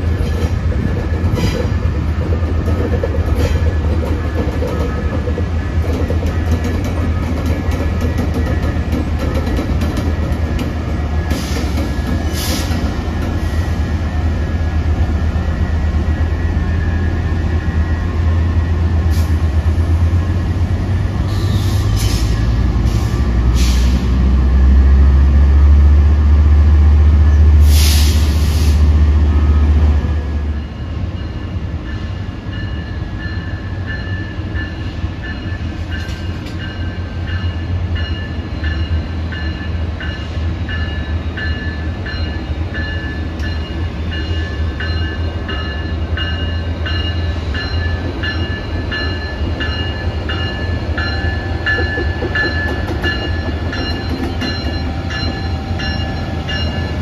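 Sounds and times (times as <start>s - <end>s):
diesel train engine rumble: 0.0s - 57.0s.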